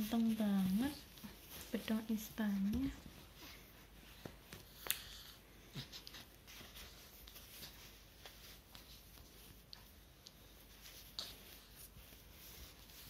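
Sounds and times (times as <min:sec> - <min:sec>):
cloth rustling: 0:00.0 - 0:04.7, 0:05.6 - 0:13.0.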